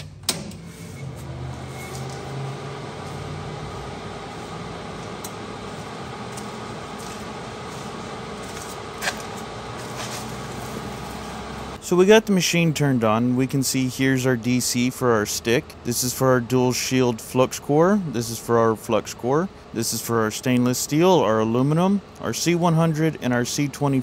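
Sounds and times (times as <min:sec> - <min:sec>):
welder cooling fan running: 0:00.0 - 0:24.0.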